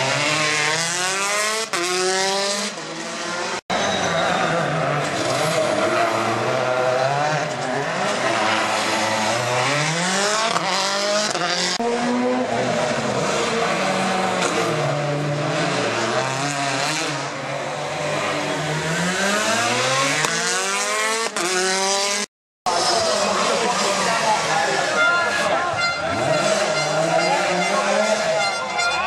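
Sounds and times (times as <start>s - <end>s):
rally car engines revving: 0.0s - 29.0s.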